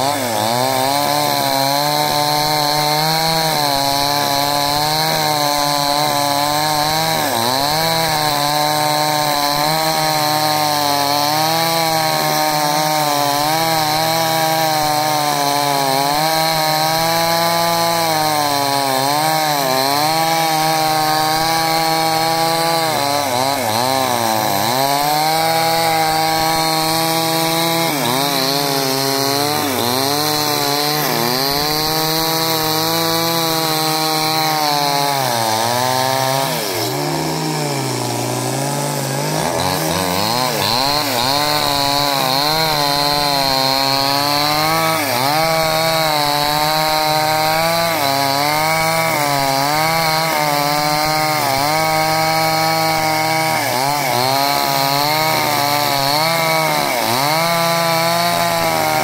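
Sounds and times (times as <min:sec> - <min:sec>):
chainsaw cutting hard wood: 0:00.0 - 0:59.0.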